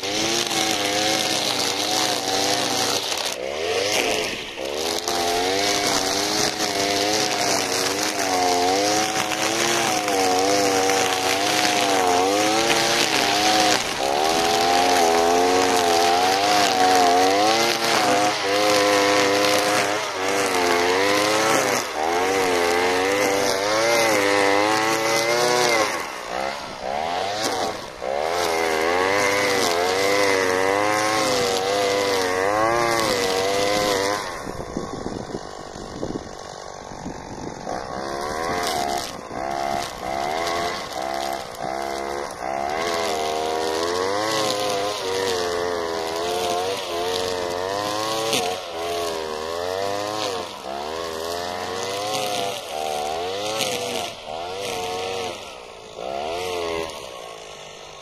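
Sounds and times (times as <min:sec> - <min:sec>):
cutting head hitting weeds: 0:00.0 - 0:57.2
brushcutter engine running: 0:00.0 - 0:58.0.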